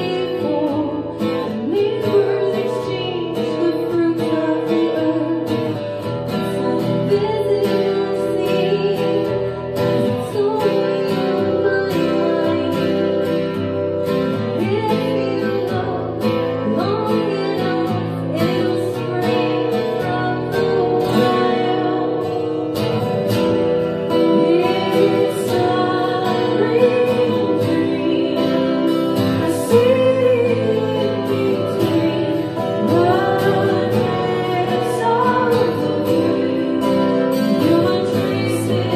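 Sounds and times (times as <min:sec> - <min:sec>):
acoustic guitar strumming: 0:00.0 - 0:38.9
woman singing: 0:00.0 - 0:38.9.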